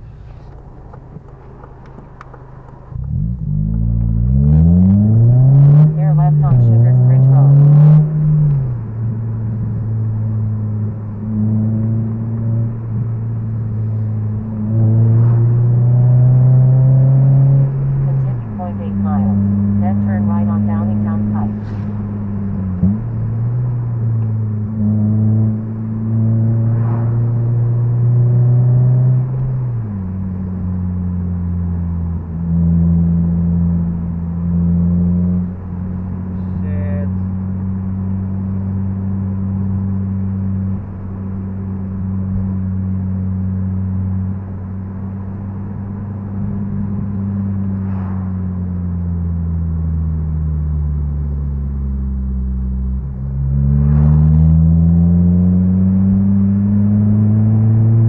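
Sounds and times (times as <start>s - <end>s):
car engine droning inside cabin: 0.0s - 58.0s.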